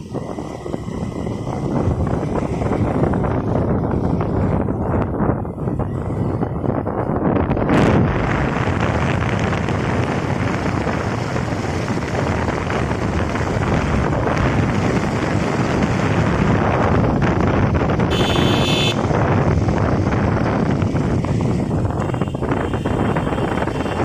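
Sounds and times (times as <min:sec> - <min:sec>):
bike road noise: 0:00.0 - 0:24.0
wind on microphone: 0:00.0 - 0:24.0.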